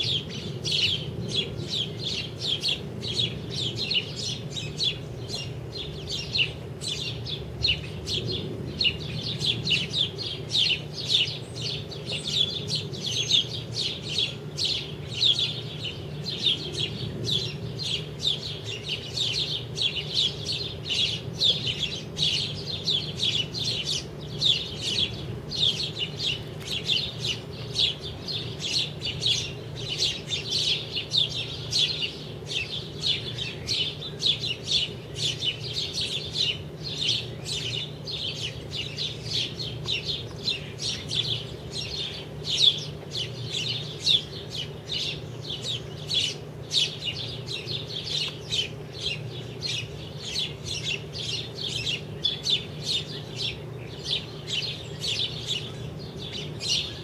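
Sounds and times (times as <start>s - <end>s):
sparrows chirping: 0.0s - 57.0s
steady low hum: 0.0s - 57.0s.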